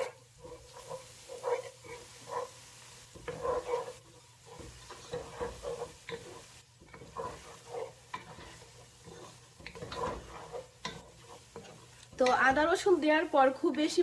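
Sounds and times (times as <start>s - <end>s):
utensil scraping in a pot: 0.0s - 13.0s
faint sizzle of frying: 0.0s - 14.0s.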